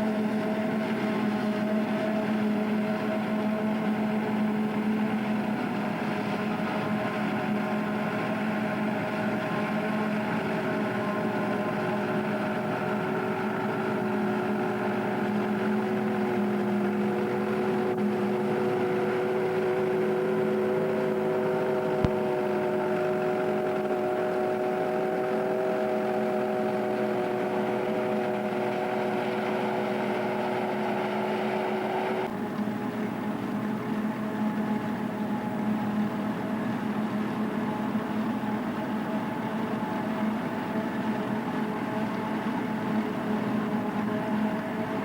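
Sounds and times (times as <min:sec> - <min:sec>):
harvester droning hum: 0:00.0 - 0:45.0.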